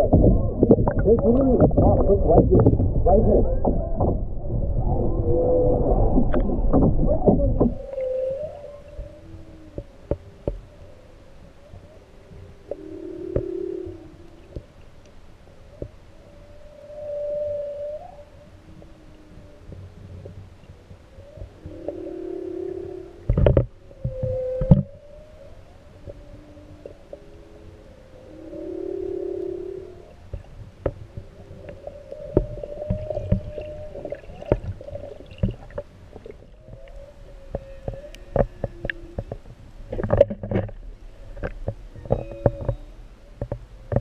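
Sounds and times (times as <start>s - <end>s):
humpback whale song: 0.0s - 44.0s.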